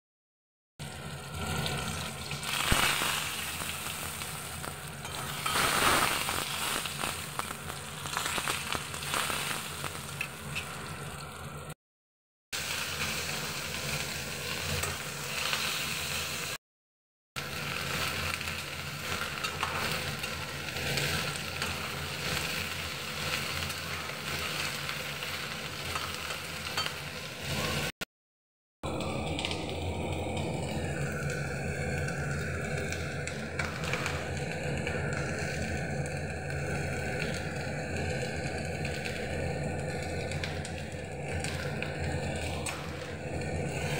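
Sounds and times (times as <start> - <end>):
oil sizzling and crackling: 0.8 - 11.8, 12.6 - 16.6, 17.4 - 28.0, 28.8 - 43.9.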